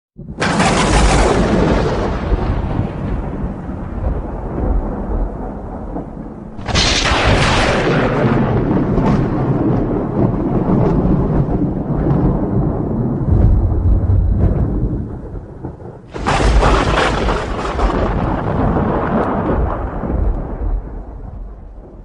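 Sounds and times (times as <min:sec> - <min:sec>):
loud thunder crack: 0:00.2 - 0:22.0
thunder rumbling: 0:00.2 - 0:22.0.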